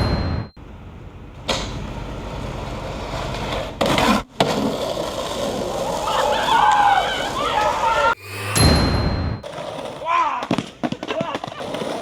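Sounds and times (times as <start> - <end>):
skateboard wheels rolling on pavement: 0.9 - 8.2, 9.4 - 12.0.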